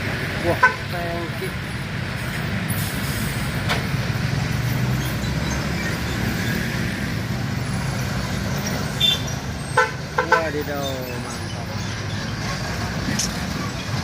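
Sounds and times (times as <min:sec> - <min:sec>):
large vehicle engine running: 0:00.0 - 0:14.0
traffic noise: 0:00.0 - 0:14.0.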